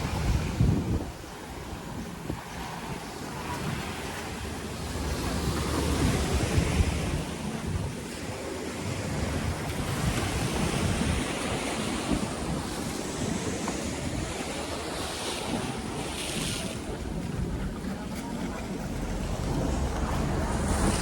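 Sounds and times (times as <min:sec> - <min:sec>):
sea water rushing: 0:00.0 - 0:21.0
wind buffeting microphone: 0:00.0 - 0:21.0.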